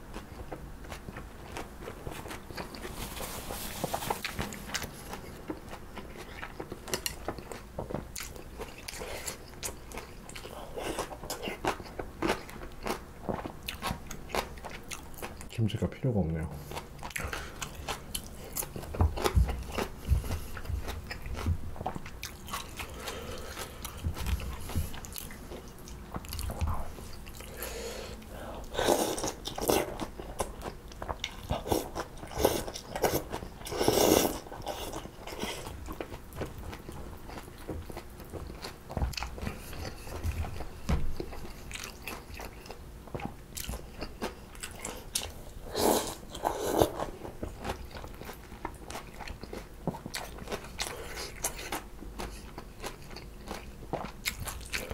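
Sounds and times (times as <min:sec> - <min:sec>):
close chewing and crunching: 0:00.0 - 0:54.9.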